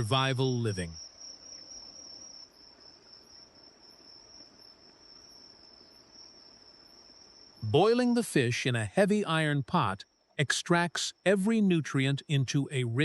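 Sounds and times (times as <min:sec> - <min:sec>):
insects trilling: 0:00.0 - 0:13.0
low background hiss: 0:00.0 - 0:13.0.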